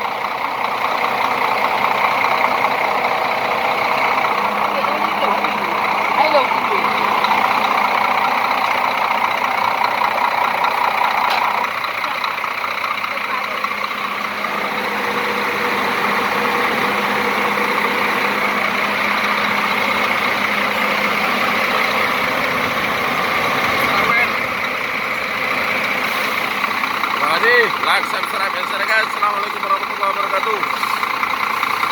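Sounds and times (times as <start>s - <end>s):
bus engine idling: 0.0s - 31.9s.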